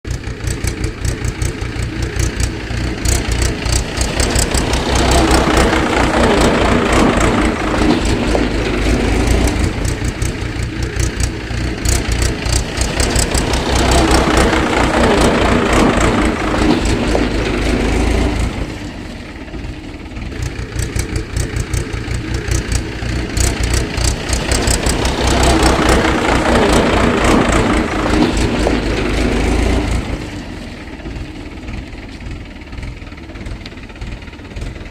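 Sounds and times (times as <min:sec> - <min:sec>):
tractor engine chugging: 0:00.0 - 0:34.9.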